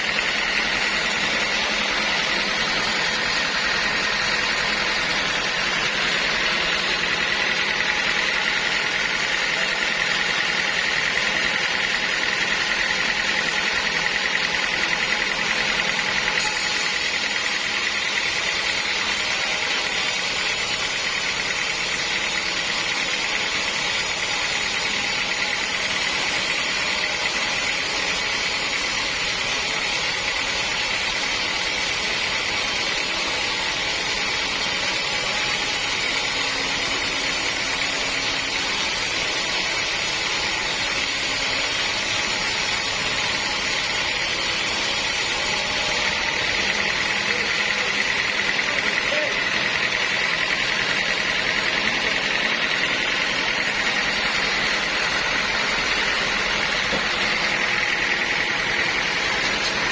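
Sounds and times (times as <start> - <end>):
sawmill saw whining: 0.0 - 59.9.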